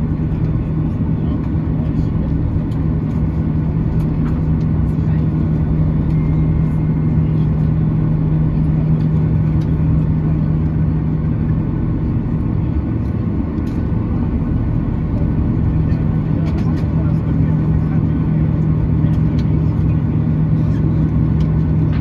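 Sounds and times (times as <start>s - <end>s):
airplane cabin engine drone: 0.0s - 22.0s.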